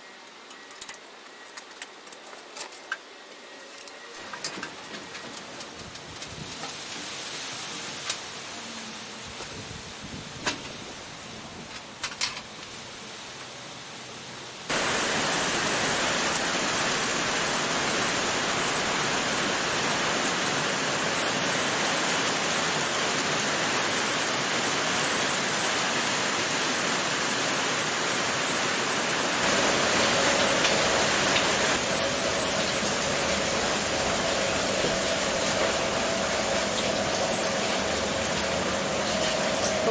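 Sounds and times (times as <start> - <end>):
heavy rain hissing: 6.1 - 39.9.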